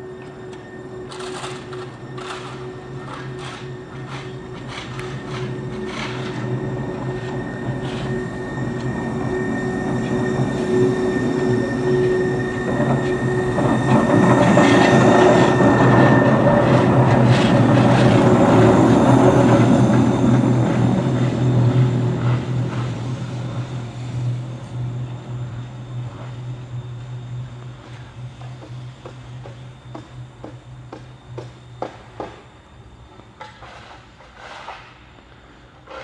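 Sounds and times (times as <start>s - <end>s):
electric railcar humming and whining: 0.0s - 36.0s.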